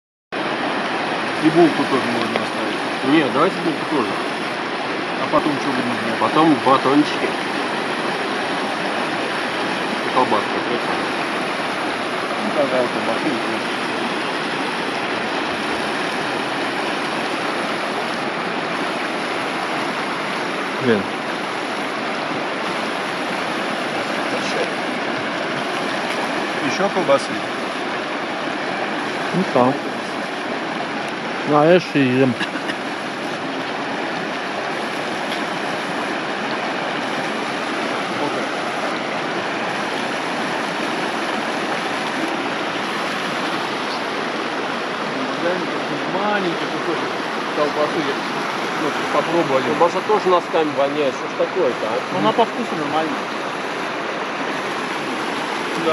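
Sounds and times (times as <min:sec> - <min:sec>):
stream rushing over stones: 0:00.4 - 0:55.9.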